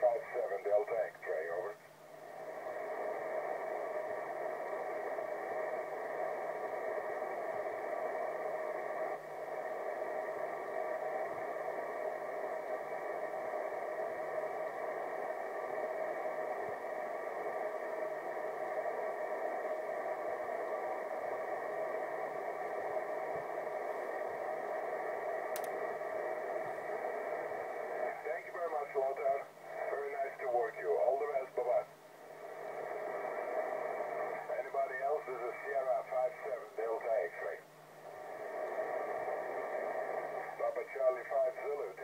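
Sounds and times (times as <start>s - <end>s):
radio speaker hiss: 0.0s - 42.0s.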